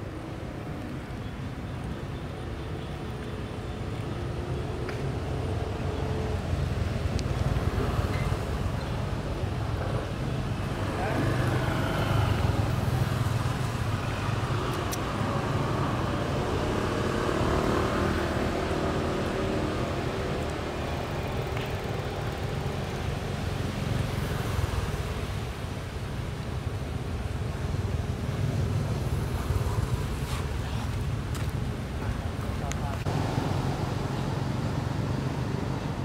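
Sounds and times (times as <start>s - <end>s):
distant traffic rumble: 0.0s - 36.0s.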